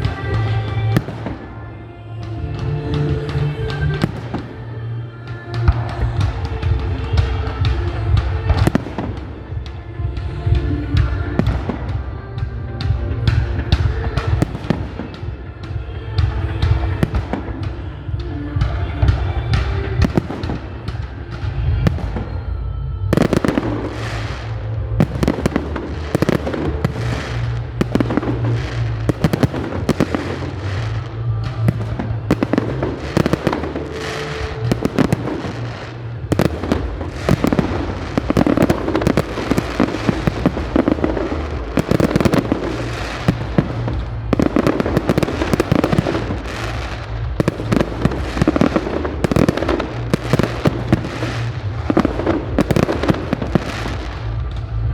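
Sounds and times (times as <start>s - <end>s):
fireworks bursting and crackling: 0.0s - 22.5s, 23.1s - 54.9s
music: 0.0s - 54.9s.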